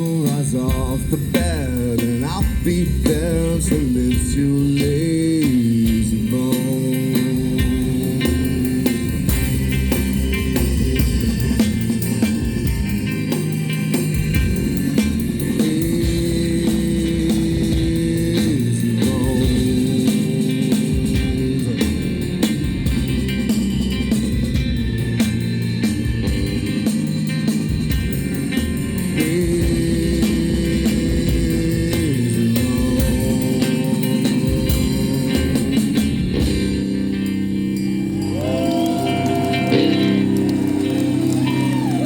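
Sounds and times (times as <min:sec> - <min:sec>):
guitar: 0:00.0 - 0:42.0
live rock band playing: 0:00.0 - 0:42.0.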